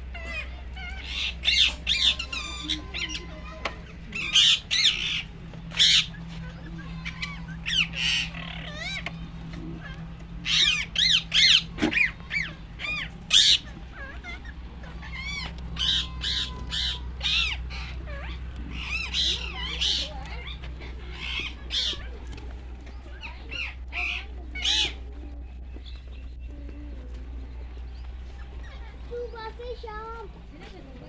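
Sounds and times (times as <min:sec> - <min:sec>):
birds calling: 0:00.0 - 0:31.0
steady low hum: 0:00.0 - 0:31.0.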